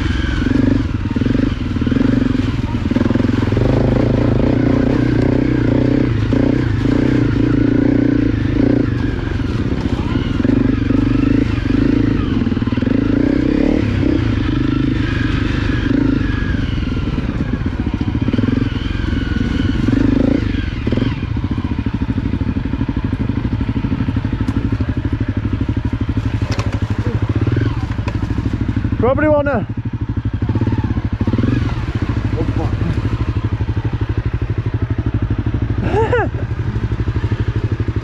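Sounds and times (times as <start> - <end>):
motorbike engine running: 0.0 - 38.0.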